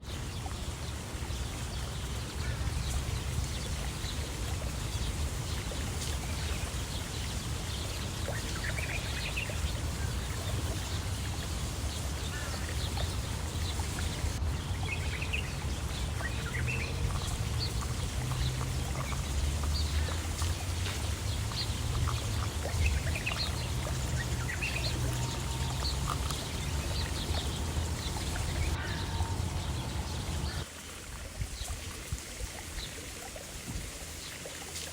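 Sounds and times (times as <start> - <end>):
birds calling: 0.0 - 30.7
steady low rumble: 2.5 - 30.6.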